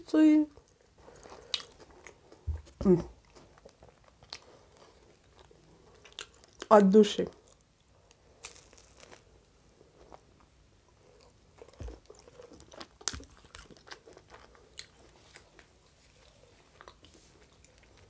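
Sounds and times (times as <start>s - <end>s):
chewing crusty bread: 0.6s - 18.0s.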